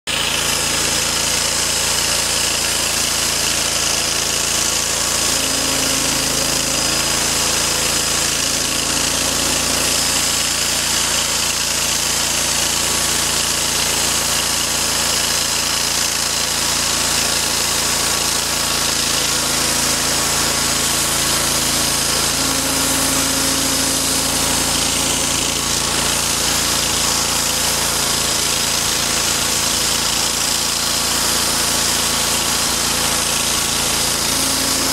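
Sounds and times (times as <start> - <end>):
band sawmill sawing log: 0.1 - 34.9.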